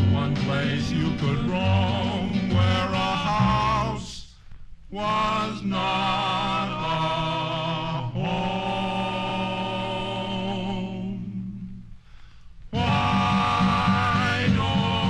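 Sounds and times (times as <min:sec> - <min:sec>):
male voices singing a cappella: 0:00.0 - 0:04.3, 0:04.9 - 0:11.8, 0:12.7 - 0:15.0.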